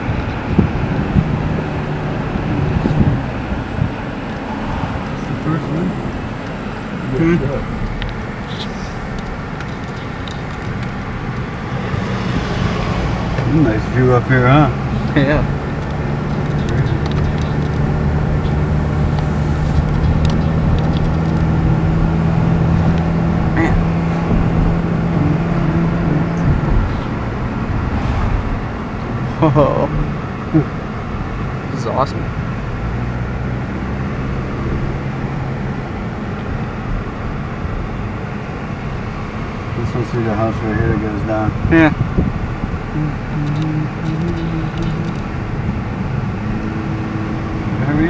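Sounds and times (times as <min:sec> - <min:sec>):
engine and road noise in cabin: 0:00.0 - 0:48.0.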